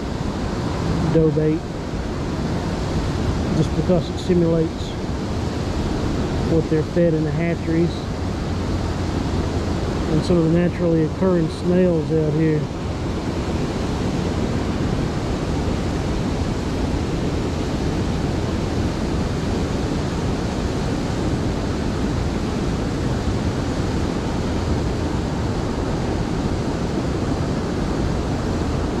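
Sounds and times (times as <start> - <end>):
fast river current rushing: 0.0 - 29.0.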